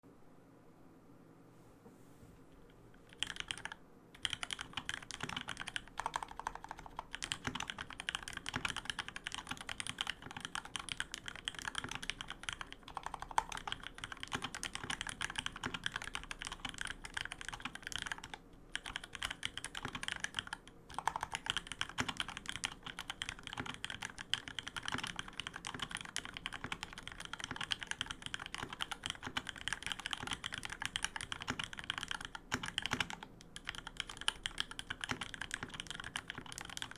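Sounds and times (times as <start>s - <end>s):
fast keyboard typing clacks: 3.1s - 36.9s.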